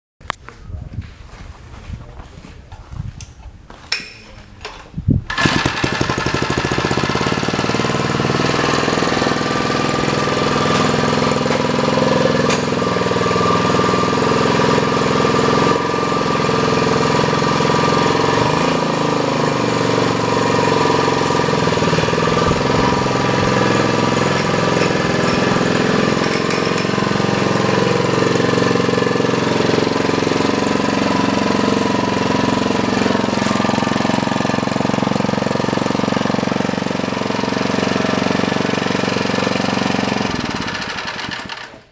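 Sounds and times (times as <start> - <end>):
small single-cylinder engine running: 5.3 - 41.9.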